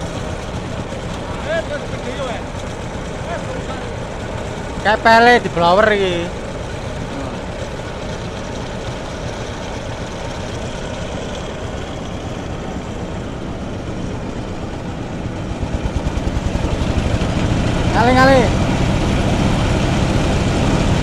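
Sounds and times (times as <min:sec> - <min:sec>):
rice thresher running: 0:00.0 - 0:21.0.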